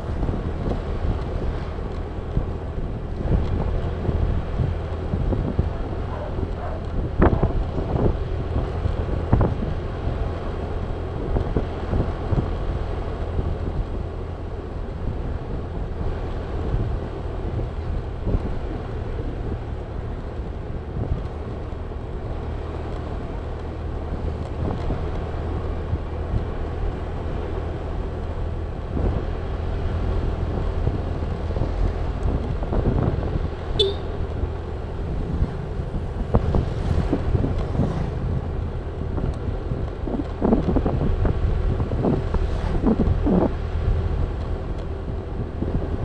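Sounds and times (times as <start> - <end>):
wind noise on microphone: 0.0 - 46.0.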